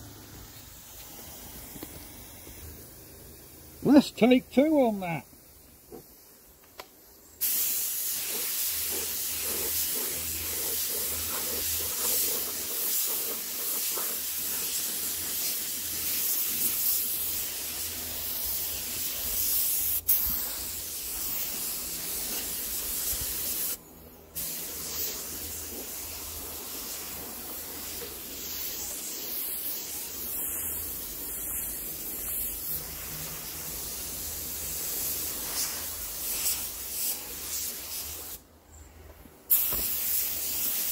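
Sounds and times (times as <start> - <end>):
spray gun hissing: 0.0 - 6.5, 7.4 - 23.8, 24.4 - 38.4, 39.5 - 40.9.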